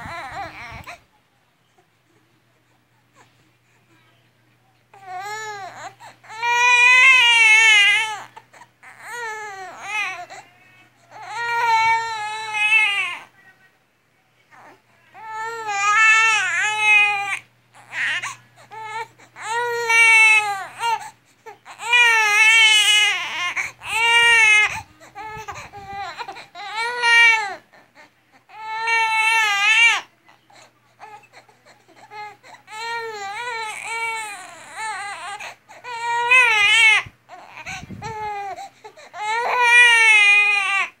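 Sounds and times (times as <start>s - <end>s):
baby crying: 0.0s - 1.0s, 4.9s - 13.3s, 14.5s - 41.0s.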